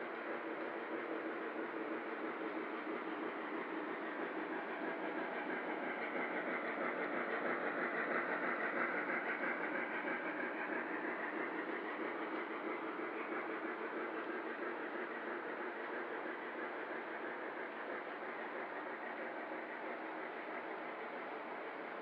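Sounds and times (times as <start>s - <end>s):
model train wheels clattering: 0.0s - 22.0s.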